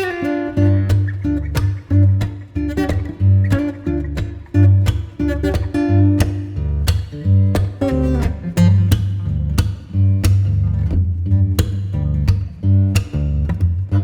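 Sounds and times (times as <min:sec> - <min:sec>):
bass line: 0:00.0 - 0:14.0
plucked guitar: 0:00.0 - 0:14.0.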